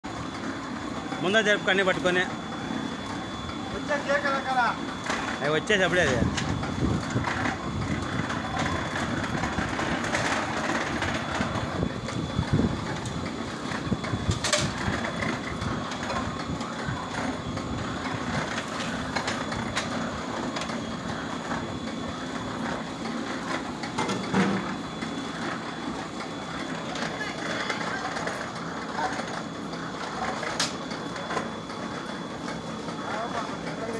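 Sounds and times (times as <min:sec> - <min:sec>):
brick making machine rattling: 0:00.1 - 0:33.9.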